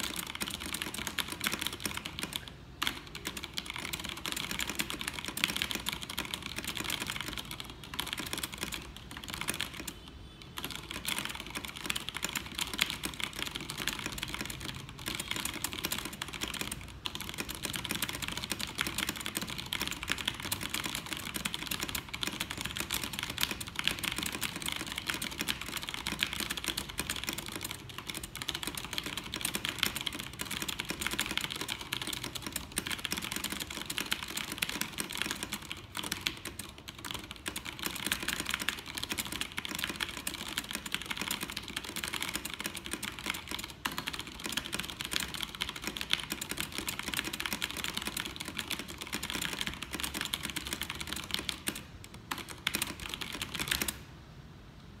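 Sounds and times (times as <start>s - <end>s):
fast typing on mechanical keyboard: 0.0s - 54.1s.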